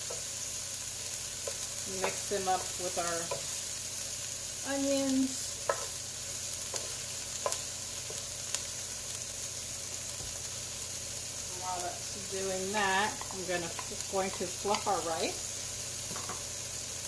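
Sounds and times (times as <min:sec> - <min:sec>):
vegetables sizzling in skillet: 0:00.0 - 0:17.0.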